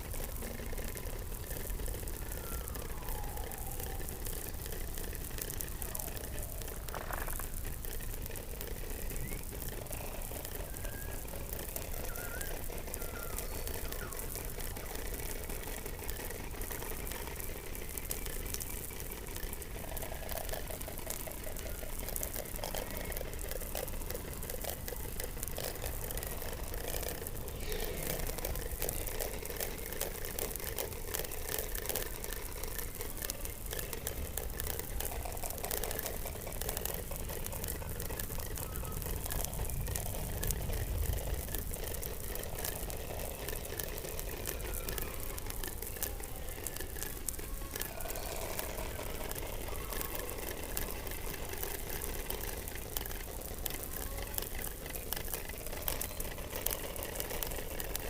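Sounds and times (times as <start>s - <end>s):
crackle of underwater clicks: 0.0s - 58.0s
rapid pulsing: 0.0s - 58.0s.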